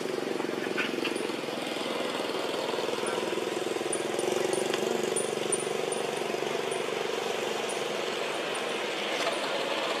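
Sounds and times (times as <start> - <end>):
engine drone with fast pulse: 0.0 - 10.0.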